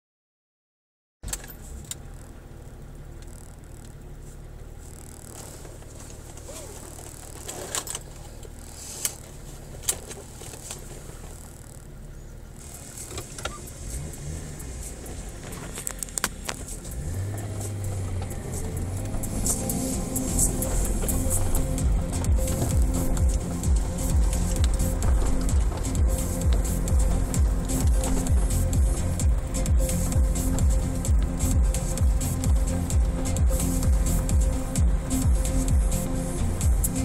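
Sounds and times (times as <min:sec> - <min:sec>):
car engine idling: 0:01.2 - 0:37.0
sharp clicks and rattles: 0:01.2 - 0:37.0.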